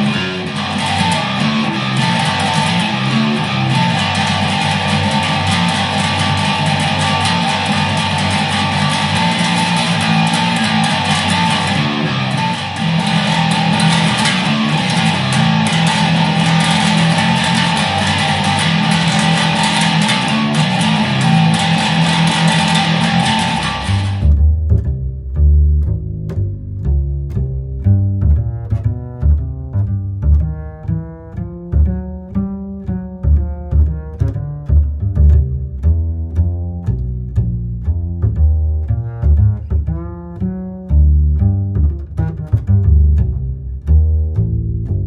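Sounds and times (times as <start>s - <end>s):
clean low bass notes: 0.0s - 45.0s
distorted electric bass riff: 0.0s - 45.0s.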